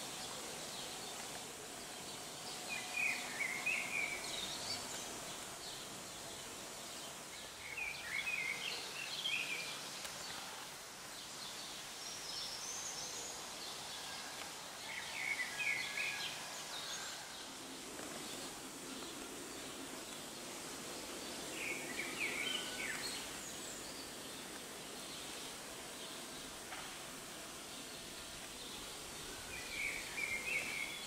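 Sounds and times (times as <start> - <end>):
outdoor background noise: 0.0 - 31.0
songbirds chirping: 0.0 - 31.0.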